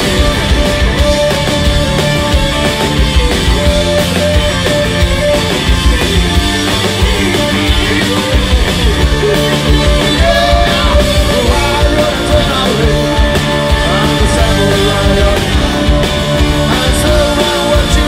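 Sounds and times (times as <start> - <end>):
bass guitar: 0.0 - 18.0
drums: 0.0 - 18.0
electric guitars: 0.0 - 18.0.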